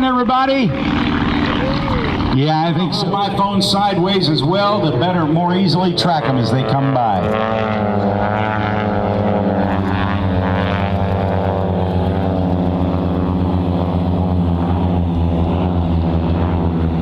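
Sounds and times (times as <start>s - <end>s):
airplane engines droning: 0.0s - 17.0s.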